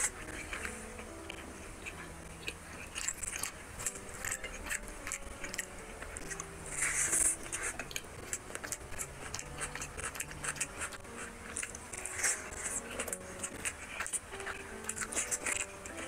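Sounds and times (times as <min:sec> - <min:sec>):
chewing: 0:00.0 - 0:16.0
faint background music: 0:00.0 - 0:16.0
fingers squishing rice: 0:00.0 - 0:16.0
small wet clicks and crackles: 0:00.0 - 0:16.0.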